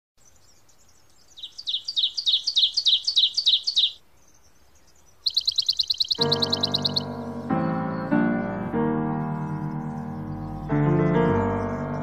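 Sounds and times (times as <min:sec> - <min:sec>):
bird singing high chirps: 0:00.2 - 0:08.6, 0:09.3 - 0:10.8
faint chirps of other birds: 0:00.2 - 0:08.6, 0:09.2 - 0:12.0.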